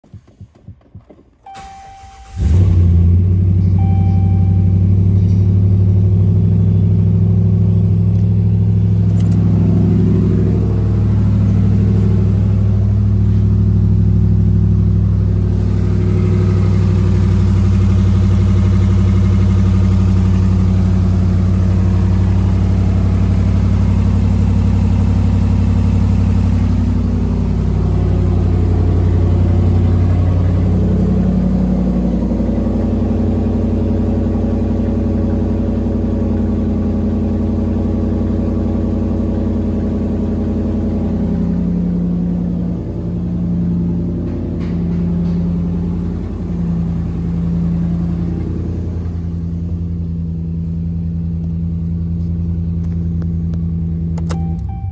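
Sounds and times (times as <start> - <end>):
engine idling: 0.1 - 54.9.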